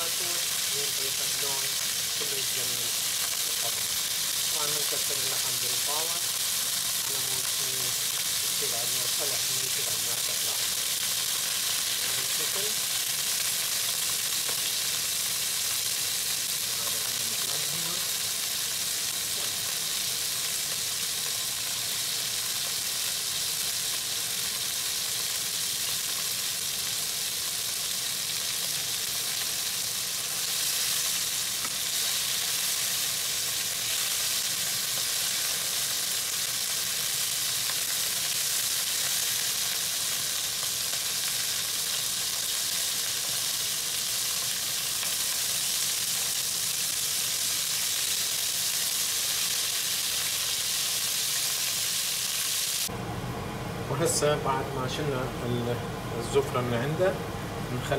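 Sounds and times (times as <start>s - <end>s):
meat sizzling in a pan: 0.0s - 52.9s.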